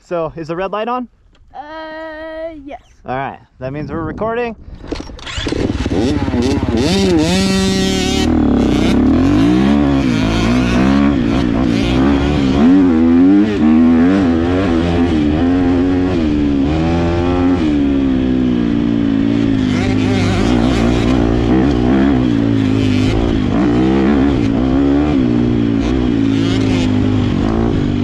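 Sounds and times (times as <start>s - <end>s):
motocross bike engine revving: 5.0s - 28.0s.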